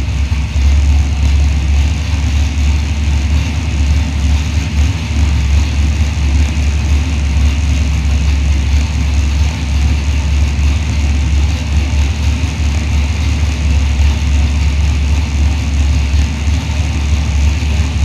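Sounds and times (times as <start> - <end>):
car engine running steadily: 0.0 - 18.0.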